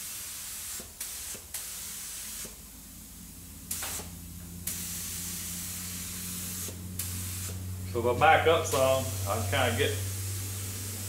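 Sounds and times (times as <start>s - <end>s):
paint spray gun hissing: 0.0s - 2.6s, 3.7s - 11.0s.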